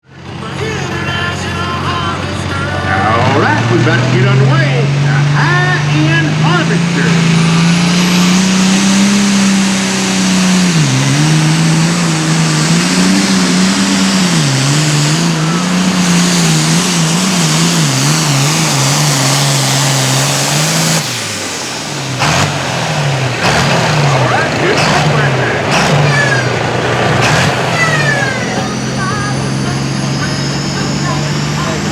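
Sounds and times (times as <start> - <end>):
tractor diesel engine under load: 0.0 - 31.9.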